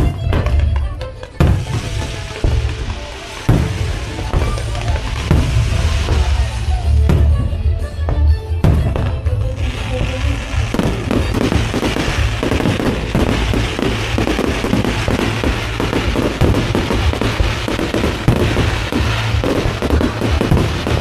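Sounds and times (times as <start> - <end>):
fireworks bursting and crackling: 0.0 - 21.0
music playing: 0.0 - 21.0.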